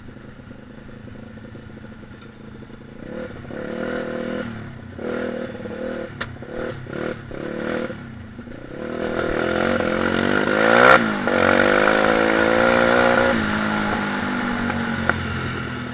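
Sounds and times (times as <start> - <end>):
motorbike engine revving: 0.0 - 15.9.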